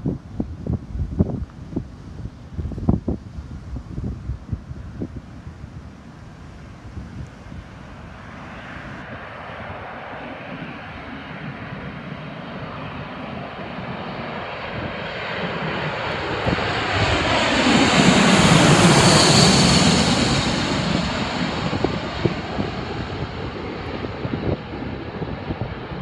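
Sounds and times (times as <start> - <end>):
airliner jet engines passing overhead: 0.0 - 26.0.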